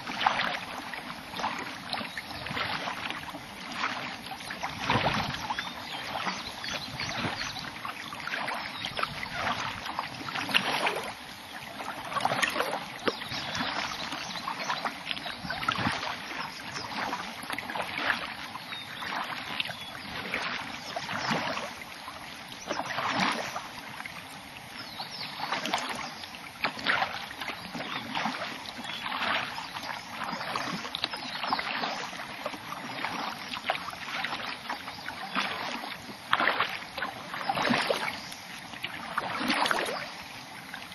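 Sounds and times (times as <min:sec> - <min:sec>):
paddle splashing in water: 0:00.0 - 0:40.9.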